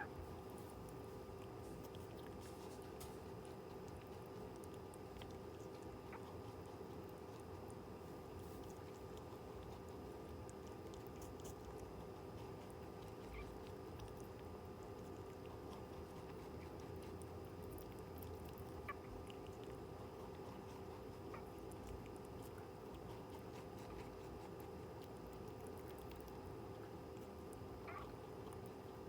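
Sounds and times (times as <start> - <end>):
background hum: 0.0 - 29.0
rabbit chewing clicks: 0.0 - 29.0.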